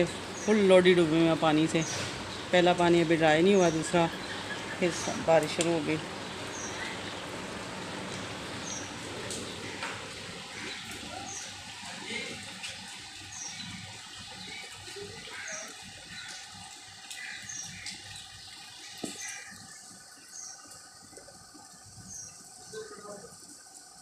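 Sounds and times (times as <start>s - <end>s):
rain on pavement: 0.0s - 24.0s.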